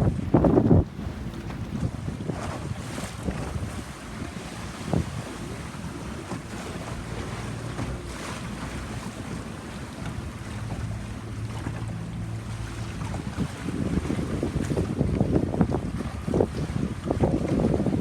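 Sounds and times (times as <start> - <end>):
boat engine droning: 0.0 - 18.0
water splashing on hull: 0.0 - 18.0
wind buffeting microphone: 0.0 - 18.0.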